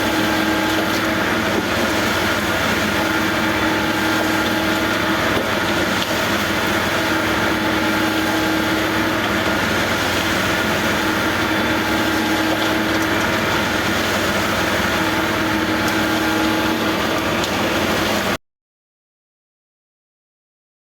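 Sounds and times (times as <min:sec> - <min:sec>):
heavy machinery engine humming: 0:00.0 - 0:18.4.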